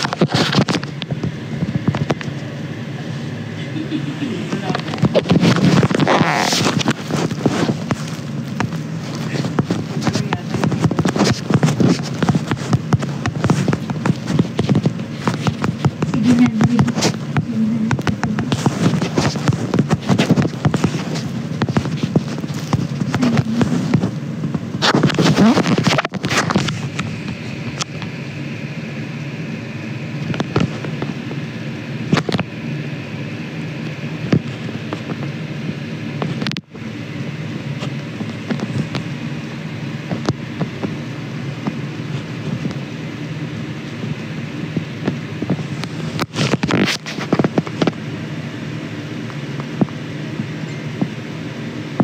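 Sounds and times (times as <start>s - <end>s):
microphone handling crackle: 0.0s - 28.3s, 30.2s - 31.4s, 32.1s - 32.5s, 33.8s - 36.8s, 37.7s - 43.0s, 43.7s - 48.1s
low hum: 0.0s - 52.0s.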